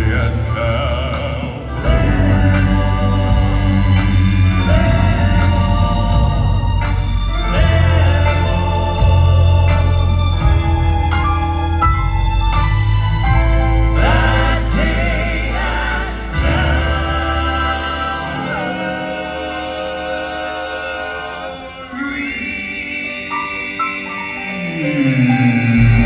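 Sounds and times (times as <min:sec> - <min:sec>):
gospel quartet singing in harmony: 0:00.0 - 0:26.0.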